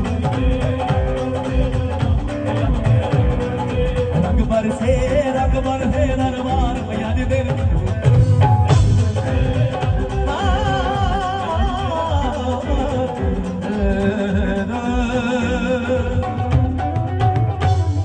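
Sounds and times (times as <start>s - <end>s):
live band playing a song: 0.0s - 18.0s
steady drum beat: 0.0s - 18.0s.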